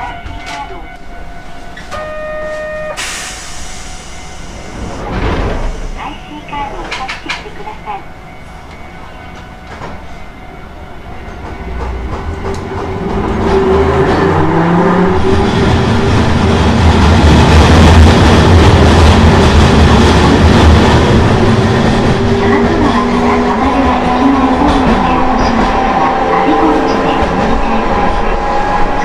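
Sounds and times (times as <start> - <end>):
tram motors growling: 3.0 - 29.0
wheels rumbling on rails: 3.6 - 29.0.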